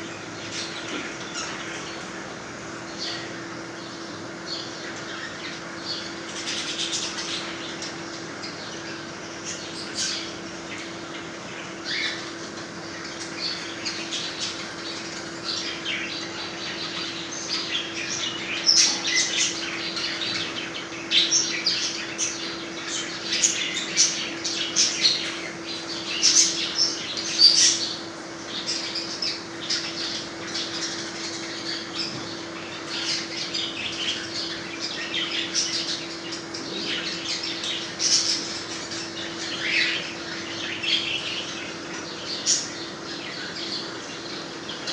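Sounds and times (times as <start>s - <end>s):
budgerigars chattering: 0.0s - 44.9s
steady low hum: 0.0s - 44.9s.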